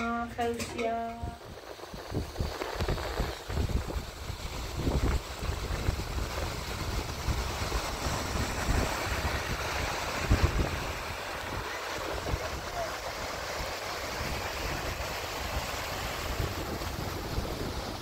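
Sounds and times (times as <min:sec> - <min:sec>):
wind buffeting the microphone: 0:00.4 - 0:18.0.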